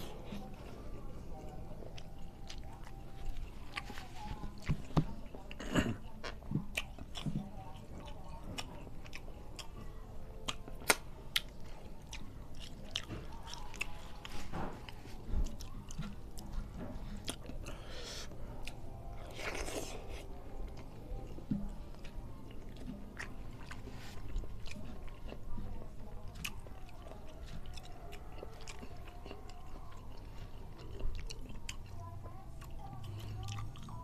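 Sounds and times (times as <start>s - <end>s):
person chewing and lip smacking: 0.0s - 34.0s.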